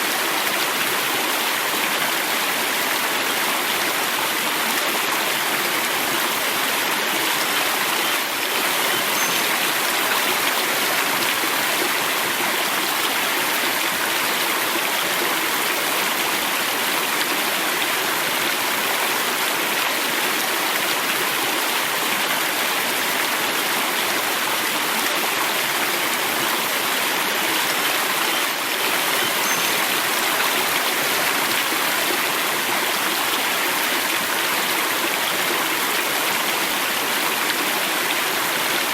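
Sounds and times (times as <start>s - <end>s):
river rushing and babbling: 0.0s - 38.9s.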